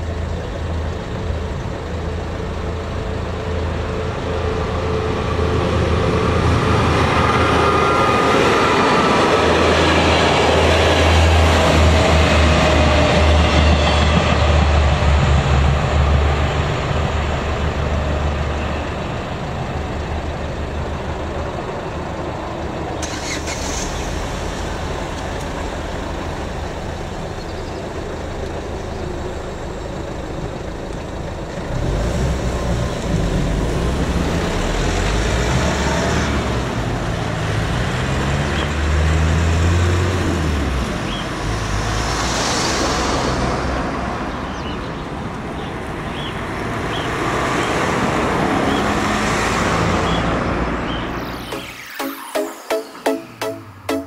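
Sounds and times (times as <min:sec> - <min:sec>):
train rumbling past: 0:00.0 - 0:30.7, 0:31.3 - 0:45.3
road vehicles driving over crossing: 0:00.0 - 0:54.0.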